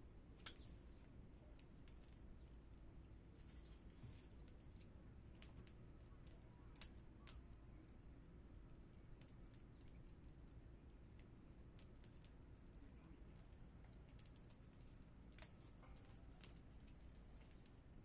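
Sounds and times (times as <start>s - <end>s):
low steady hum: 0.0s - 18.0s
small fire crackling: 0.0s - 18.0s.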